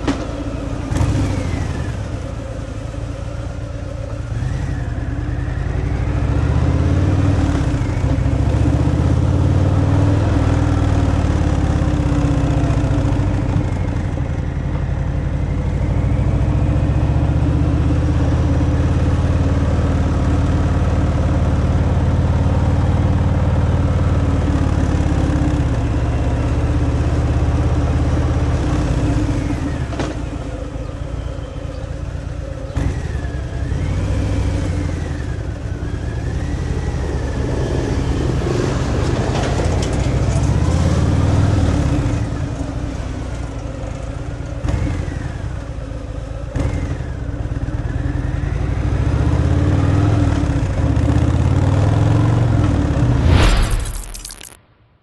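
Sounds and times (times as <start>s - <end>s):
motorcycle engine while riding: 0.0s - 54.6s.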